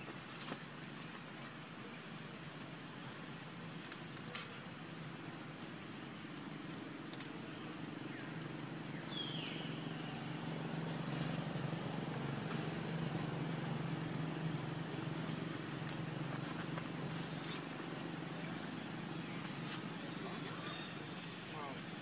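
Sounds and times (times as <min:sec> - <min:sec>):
faint hiss: 0:00.0 - 0:22.0
steady low hum: 0:00.0 - 0:22.0.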